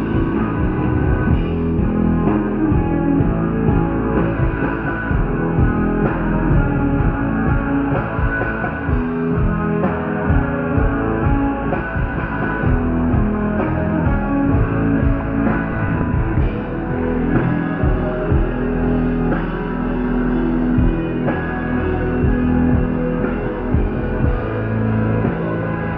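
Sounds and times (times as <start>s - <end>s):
distorted electric guitars: 0.0s - 25.9s
drum kit beat: 0.0s - 25.9s
live rock band: 0.0s - 25.9s.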